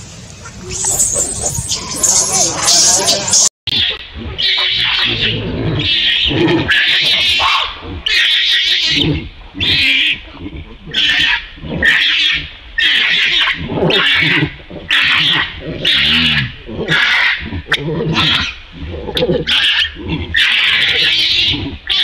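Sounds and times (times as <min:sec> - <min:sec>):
baby monkey screaming: 0:00.5 - 0:10.2, 0:10.9 - 0:18.6, 0:19.5 - 0:22.0.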